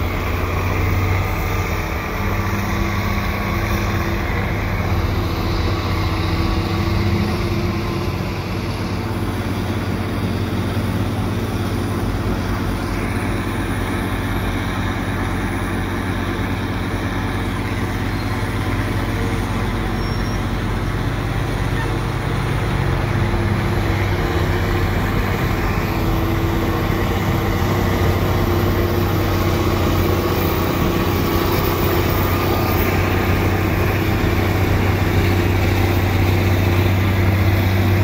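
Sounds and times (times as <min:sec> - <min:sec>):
heavy diesel engines droning: 0:00.0 - 0:38.0.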